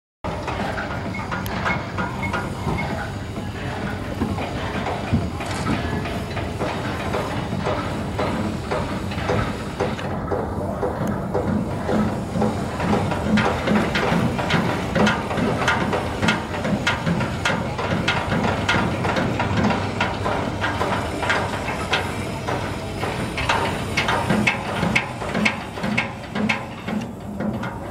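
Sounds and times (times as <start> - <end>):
boat diesel engine running: 0.3 - 27.9.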